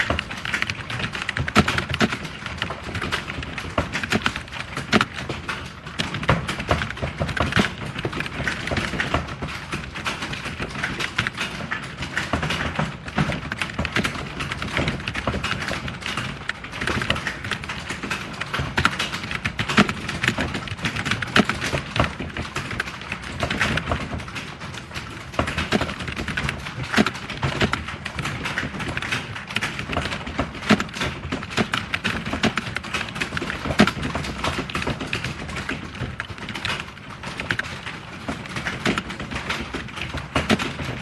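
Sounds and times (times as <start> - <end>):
fast typing on keyboard: 0.0 - 41.0.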